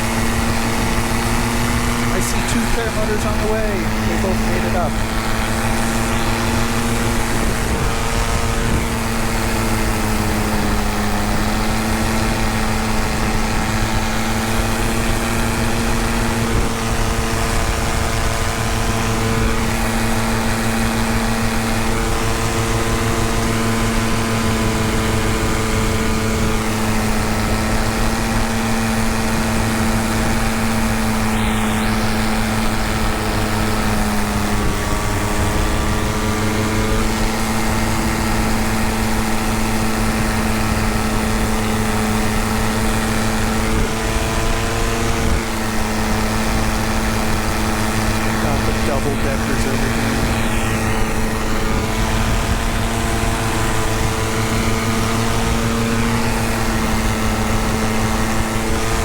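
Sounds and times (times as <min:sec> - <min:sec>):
paramotor engine and propeller drone: 0:00.0 - 0:59.0.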